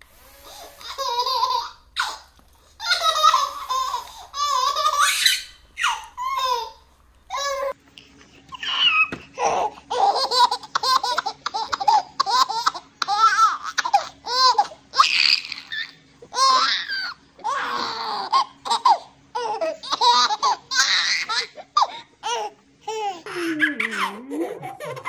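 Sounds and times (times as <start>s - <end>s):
baby laughing: 0.5s - 7.8s, 8.5s - 25.0s.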